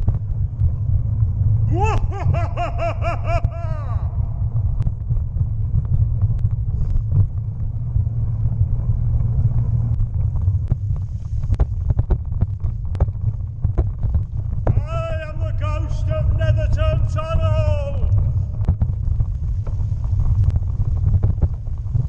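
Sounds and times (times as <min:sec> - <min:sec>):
bicycle rattling over bumps: 0:00.0 - 0:14.9, 0:18.1 - 0:22.0
bicycle tyres rumbling: 0:00.0 - 0:22.0
wind on microphone: 0:00.0 - 0:22.0.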